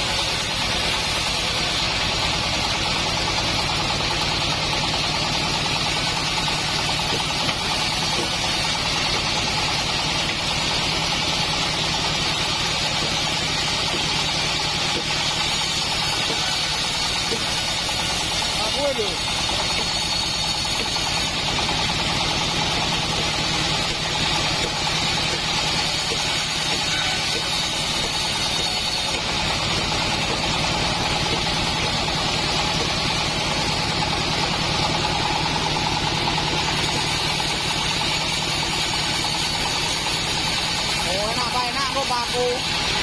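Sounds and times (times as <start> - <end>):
bandsaw mill engine running: 0.0 - 43.0.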